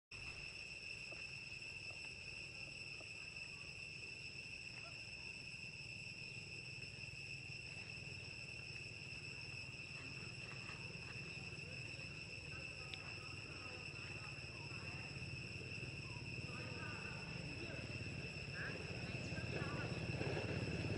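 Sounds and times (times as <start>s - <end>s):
high-pitched insect drone: 0.2s - 20.9s.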